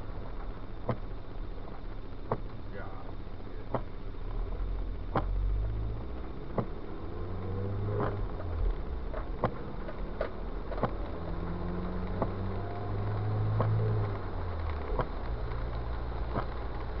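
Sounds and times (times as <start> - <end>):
car engine and tyres droning: 0.0 - 17.0.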